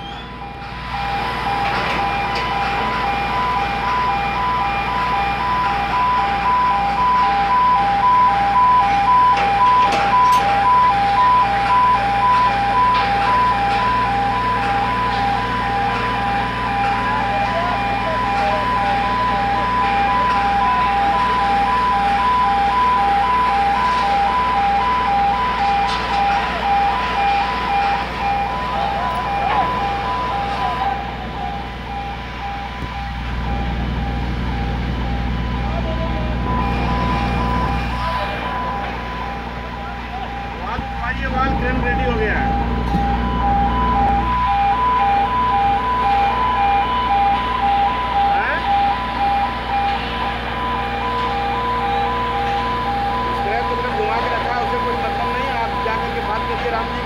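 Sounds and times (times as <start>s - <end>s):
electronic warning alarm beeping: 0.0s - 57.0s
heavy machinery humming: 0.0s - 57.0s.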